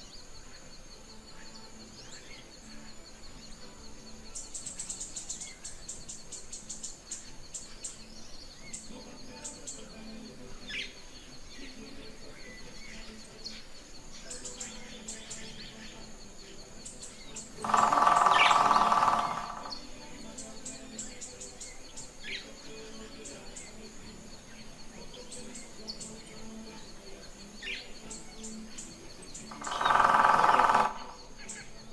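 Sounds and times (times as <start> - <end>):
insects high thin tone: 0.0 - 31.9
small birds chirping: 0.0 - 31.9
woodpecker rattling call: 0.0 - 31.9.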